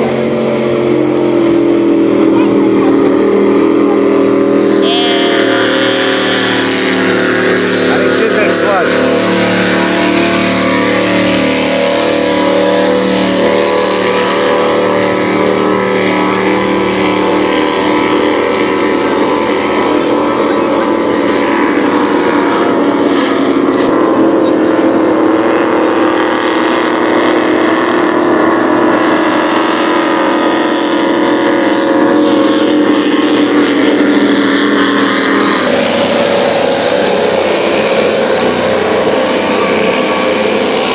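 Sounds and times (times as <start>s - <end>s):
powerboat engines droning: 0.0s - 40.9s.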